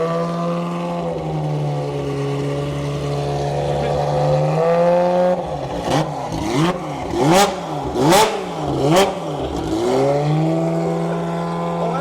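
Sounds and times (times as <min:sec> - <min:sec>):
car engine revving: 0:00.0 - 0:12.0
exhaust crack: 0:00.8 - 0:12.0.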